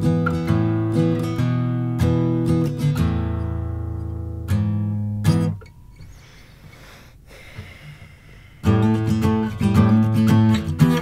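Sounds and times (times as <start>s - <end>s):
acoustic guitar strumming: 0.0s - 6.8s, 8.6s - 11.0s.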